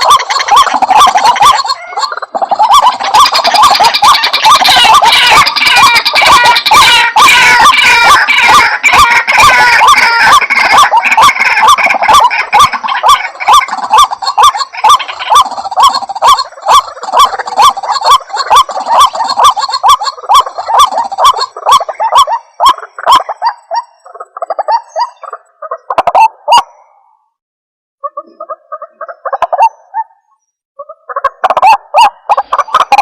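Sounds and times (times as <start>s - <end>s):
waterhen croaking calls: 0.0s - 27.3s, 28.0s - 33.0s.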